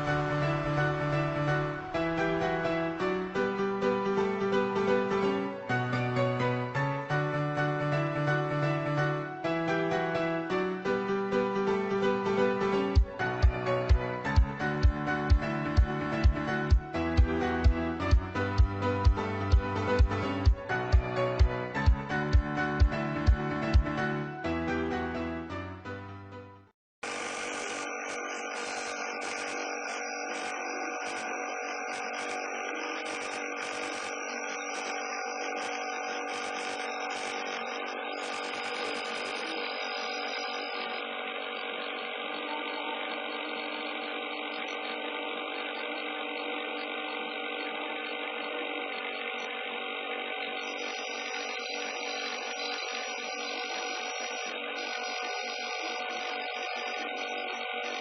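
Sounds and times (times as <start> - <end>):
machine motor whine: 0.0 - 25.6, 27.0 - 58.0.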